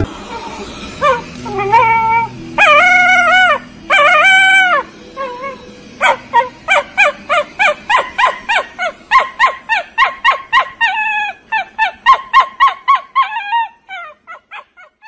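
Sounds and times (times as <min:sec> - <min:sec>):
dog yelping: 0:00.3 - 0:15.0.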